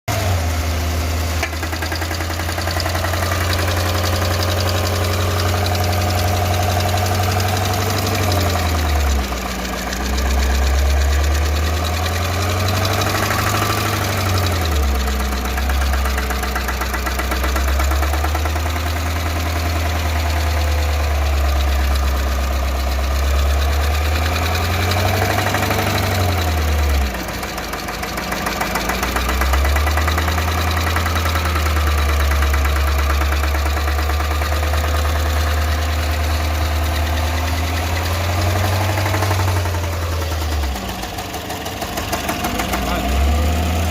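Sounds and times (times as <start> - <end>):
engine idling with lifter ticking: 0.1 - 43.9.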